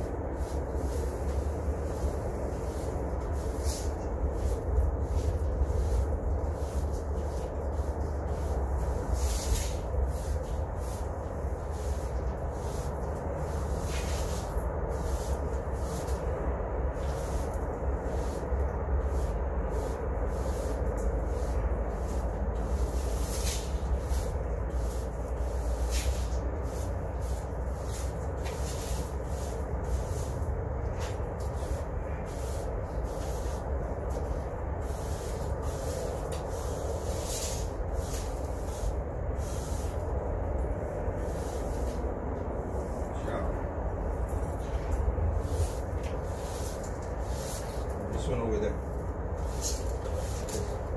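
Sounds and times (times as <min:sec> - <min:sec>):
brooms sweeping concrete: 0:00.0 - 0:50.9
low rumble: 0:00.0 - 0:50.9.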